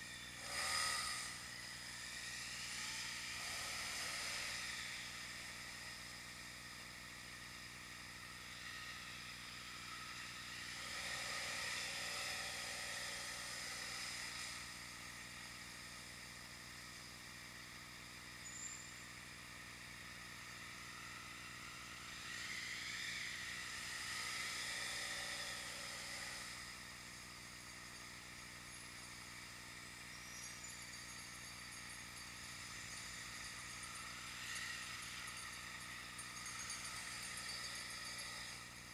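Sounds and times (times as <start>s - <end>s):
road traffic hiss: 0.0s - 38.9s.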